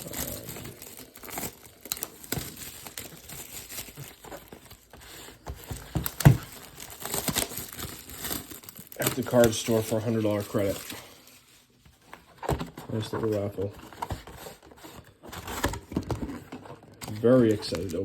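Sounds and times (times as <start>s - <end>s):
packaging crinkling and tearing: 0.0s - 11.7s, 12.4s - 18.0s.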